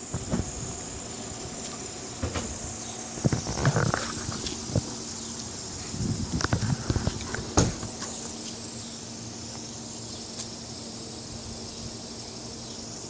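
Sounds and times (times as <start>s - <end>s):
faint hum: 0.0s - 13.0s
high hiss: 0.0s - 13.0s.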